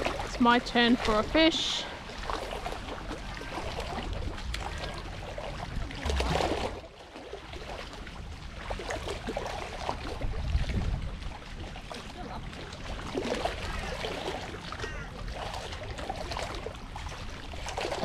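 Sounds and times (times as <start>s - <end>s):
small waves lapping on shore: 0.0s - 18.0s.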